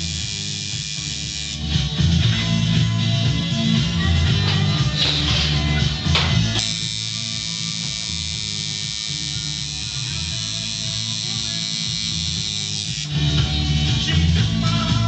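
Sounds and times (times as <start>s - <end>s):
tattoo machine buzzing: 0.0s - 3.8s, 5.1s - 14.0s
music playing: 0.0s - 15.0s.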